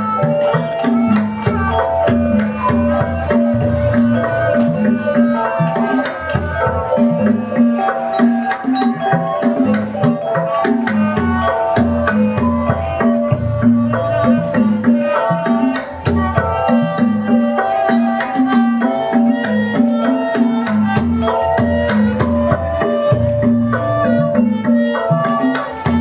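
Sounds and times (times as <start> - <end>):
hand drums beating: 0.0 - 26.0
melody of pitched instrument: 0.0 - 26.0.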